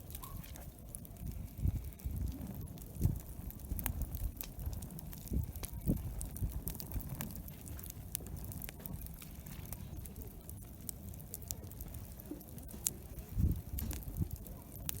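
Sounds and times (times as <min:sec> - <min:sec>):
campfire crackling and popping: 0:00.0 - 0:15.0
low background rumble: 0:00.0 - 0:15.0.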